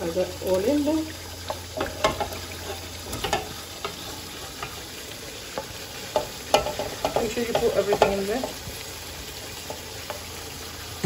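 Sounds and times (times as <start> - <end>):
oily food sizzling in pot: 0.0 - 11.0.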